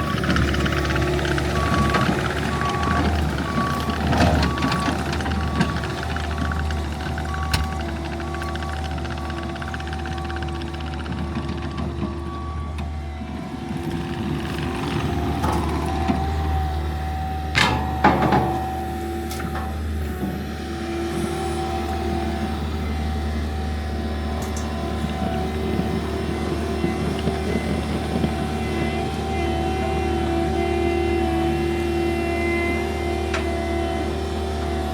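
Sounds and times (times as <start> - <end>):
track loader running: 0.0 - 34.9.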